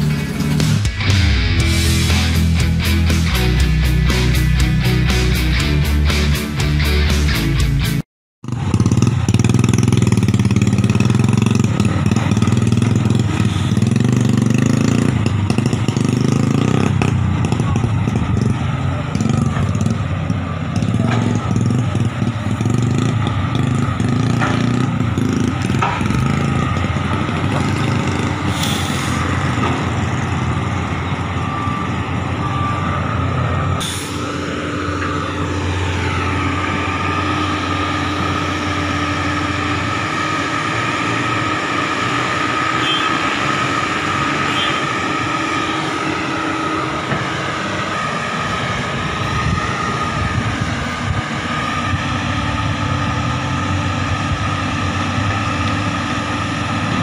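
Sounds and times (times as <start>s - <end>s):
deep diesel engine rumble: 0.0s - 57.0s
high engine whine: 0.0s - 57.0s
excavator digging mud: 8.5s - 57.0s.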